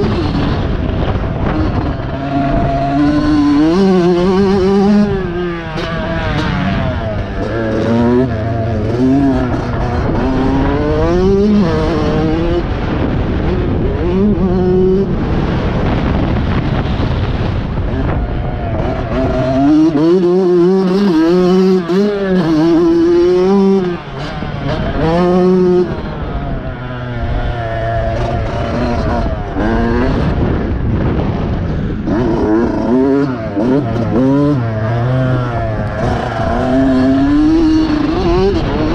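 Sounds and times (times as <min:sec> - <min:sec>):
motorbike engine revving: 0:00.0 - 0:38.9.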